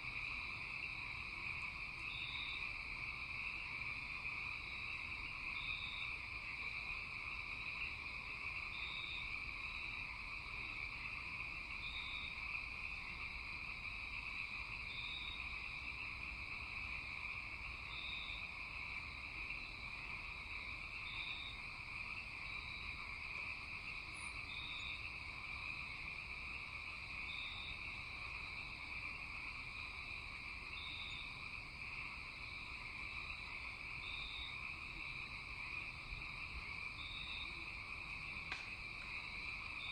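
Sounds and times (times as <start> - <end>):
insects and frogs droning: 0.0 - 39.9.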